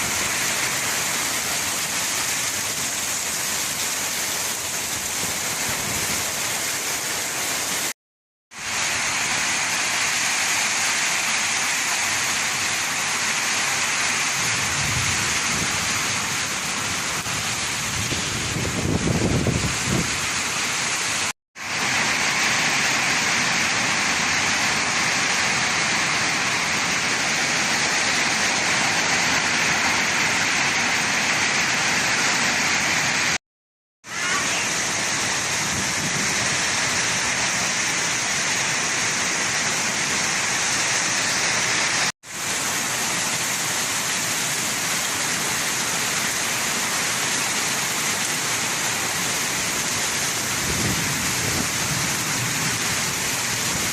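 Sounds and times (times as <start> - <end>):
heavy rain falling: 0.0 - 33.4, 34.0 - 53.9.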